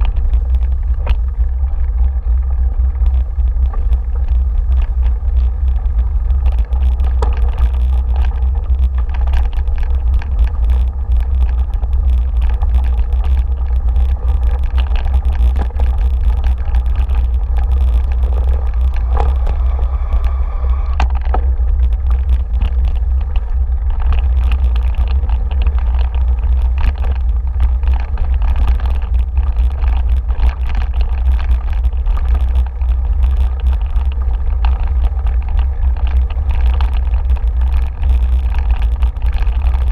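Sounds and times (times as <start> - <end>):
bike rattles and knocks: 0.0 - 39.9
wind buffeting microphone: 0.0 - 39.9.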